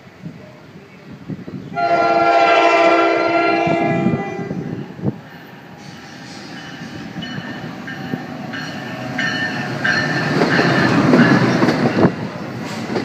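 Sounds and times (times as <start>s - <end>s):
train wheels rumbling on rails: 0.0s - 13.0s
electric train whining: 0.6s - 13.0s.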